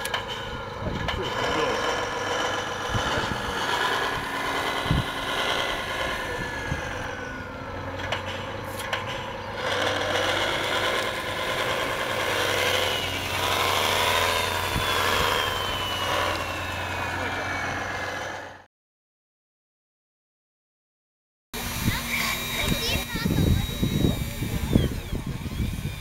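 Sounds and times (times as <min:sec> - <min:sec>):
toy truck motor whining: 0:00.0 - 0:18.7, 0:21.6 - 0:26.0.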